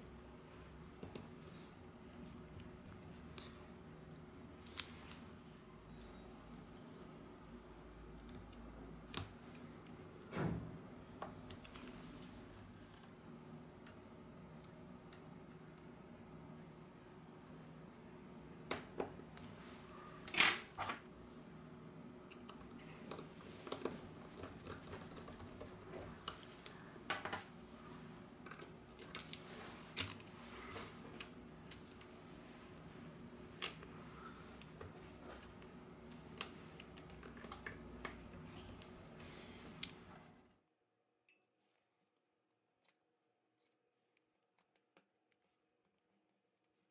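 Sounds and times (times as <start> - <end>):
faint steady hum: 0.0 - 40.7.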